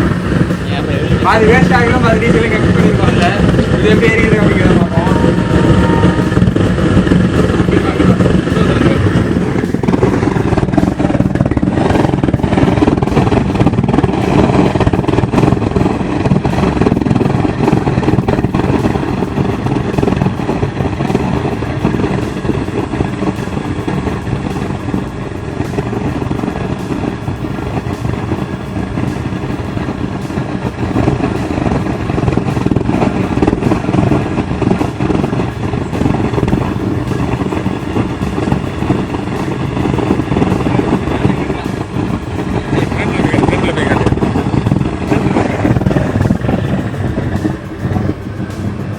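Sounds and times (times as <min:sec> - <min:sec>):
oil burner running: 0:00.0 - 0:48.9.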